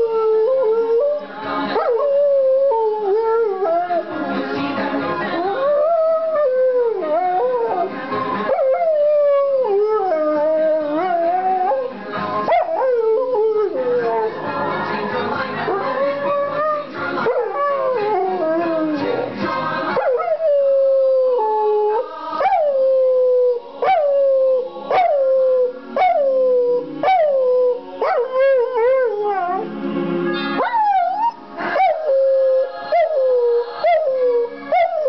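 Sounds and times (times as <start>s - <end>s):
music playing: 0.0s - 35.0s.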